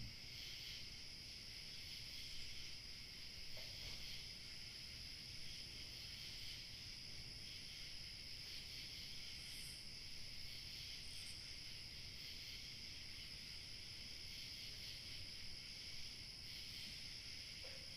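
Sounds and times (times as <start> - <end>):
crickets trilling: 0.0 - 17.9.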